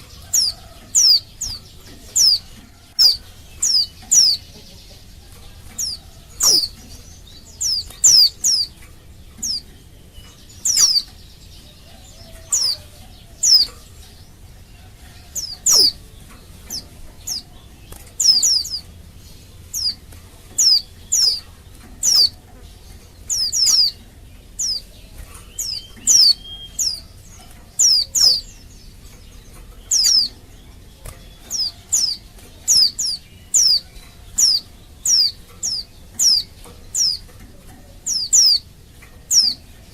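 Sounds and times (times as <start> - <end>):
bird contact calls: 0.0 - 11.2, 15.0 - 38.6.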